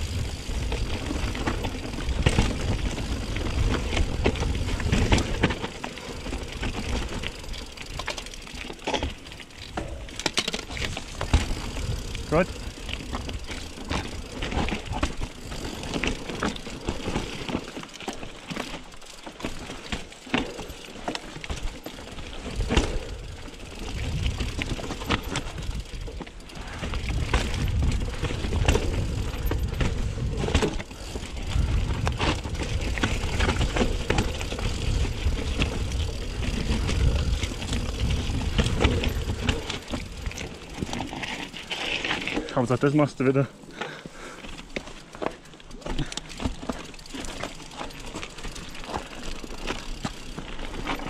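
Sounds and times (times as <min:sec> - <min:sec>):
bike clicks and rattles: 0:00.0 - 0:51.0
bike tyres over stones and gravel: 0:00.0 - 0:51.0.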